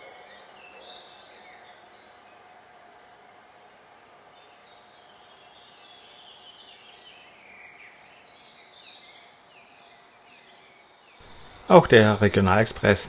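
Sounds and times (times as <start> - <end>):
faint background hum: 0.0 - 13.0
songbirds chirping: 0.0 - 13.0.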